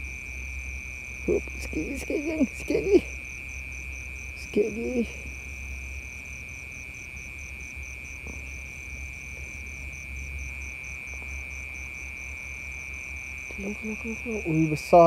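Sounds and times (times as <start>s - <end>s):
insect chirping: 0.0s - 15.0s
insect high-pitched trill: 0.0s - 15.0s.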